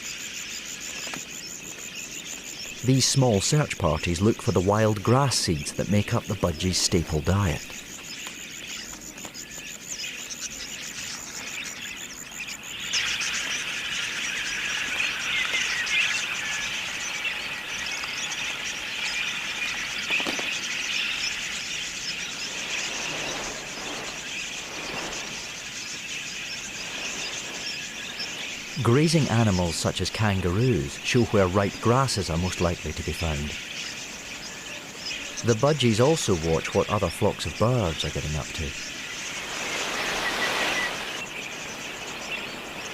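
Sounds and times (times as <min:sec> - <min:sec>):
budgerigars chattering: 0:00.0 - 0:42.9
insects trilling: 0:00.0 - 0:42.9.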